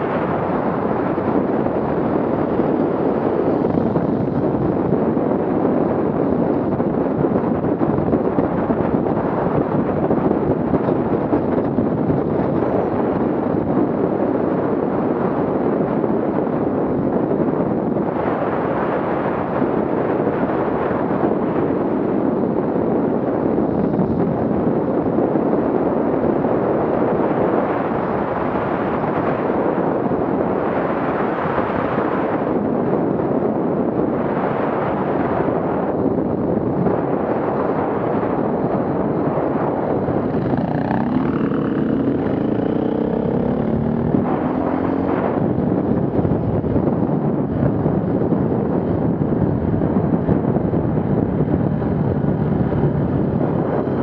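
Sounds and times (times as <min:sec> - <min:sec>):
off-road vehicle engines rumbling: 0:00.0 - 0:54.0.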